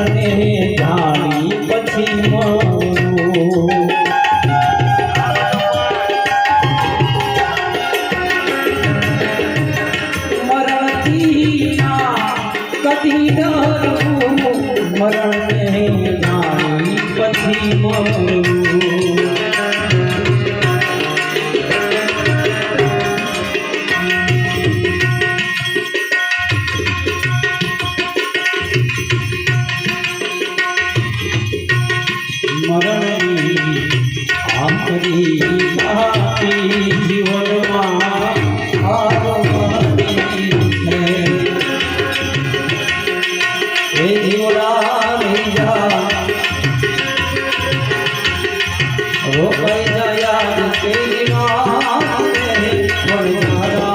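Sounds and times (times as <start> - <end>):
harmonium melody: 0.0 - 53.9
tabla rhythm: 0.0 - 53.9.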